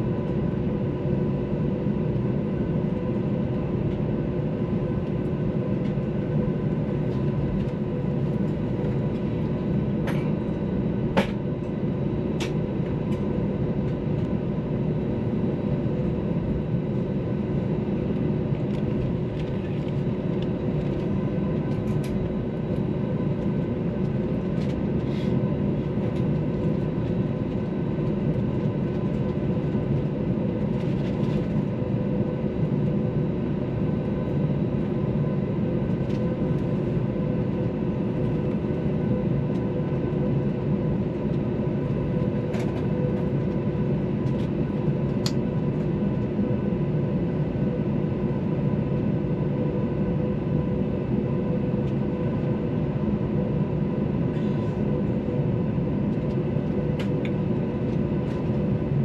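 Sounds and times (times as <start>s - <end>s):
constant whine of held tones: 0.0s - 59.0s
jet engine drone in cabin: 0.0s - 59.0s.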